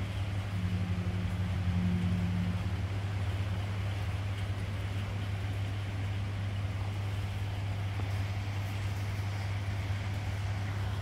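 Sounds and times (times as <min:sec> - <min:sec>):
broad rush of noise: 0:00.0 - 0:11.0
low machinery hum: 0:00.0 - 0:11.0.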